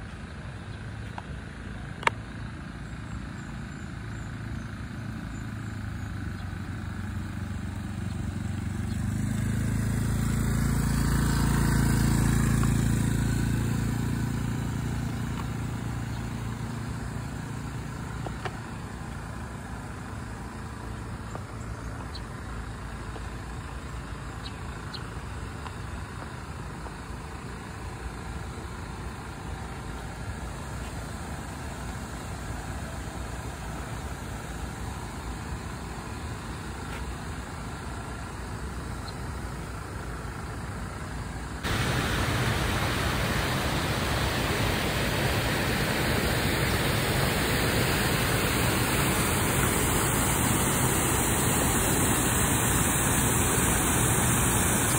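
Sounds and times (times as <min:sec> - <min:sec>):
car driving road noise: 0:00.0 - 0:54.9.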